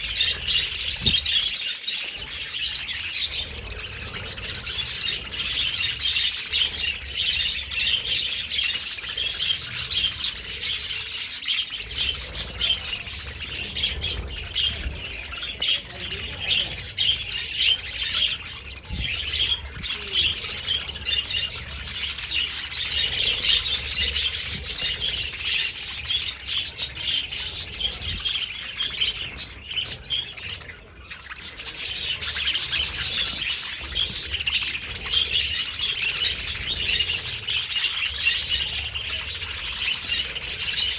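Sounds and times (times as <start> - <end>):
budgies chirping: 0.0 - 40.9.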